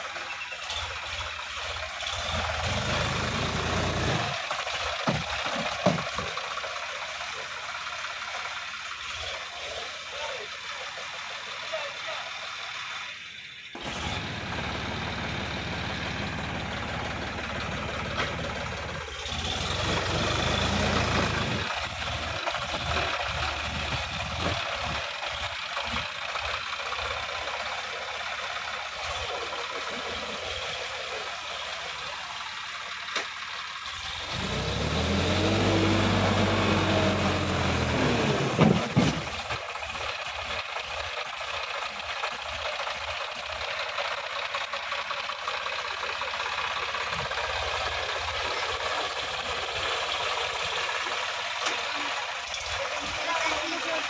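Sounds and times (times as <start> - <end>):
tractor diesel engine working hard: 0.0 - 54.0.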